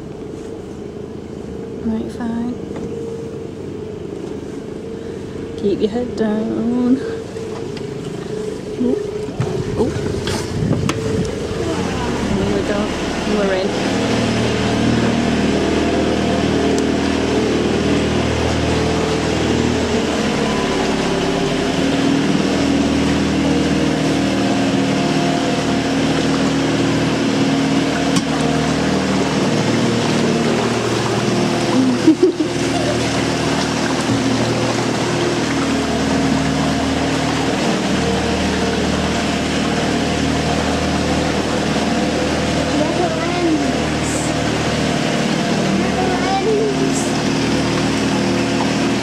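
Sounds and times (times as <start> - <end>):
boat engine running in tunnel: 0.0 - 49.0.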